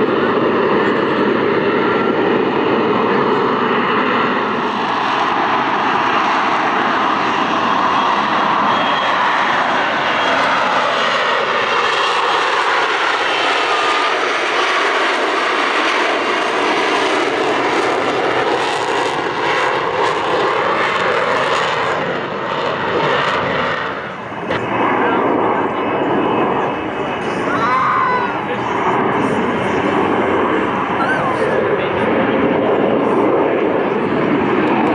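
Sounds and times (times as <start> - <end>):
aircraft flying overhead: 0.0 - 34.9.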